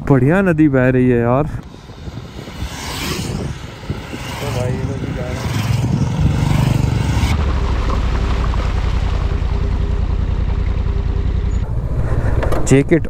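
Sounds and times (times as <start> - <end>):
wind and road noise: 0.0 - 13.0
motorcycle engines passing: 1.5 - 13.0
low engine drone: 1.6 - 13.0.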